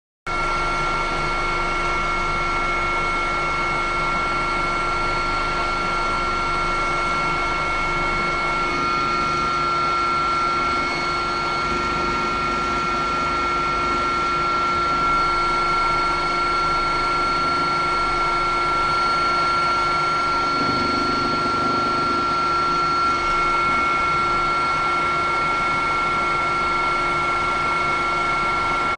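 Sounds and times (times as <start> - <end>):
helicopter turbine engine whine: 0.3 - 28.9.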